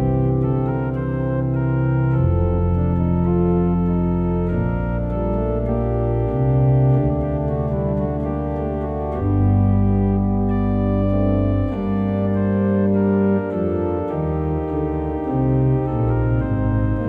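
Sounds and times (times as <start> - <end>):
organ playing full chords: 0.0 - 17.0.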